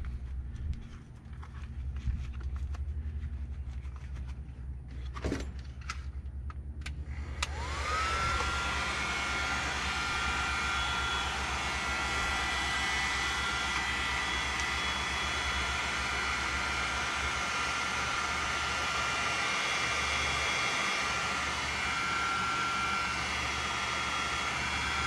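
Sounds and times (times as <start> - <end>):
heat gun fan whine and blowing: 0.0 - 25.0.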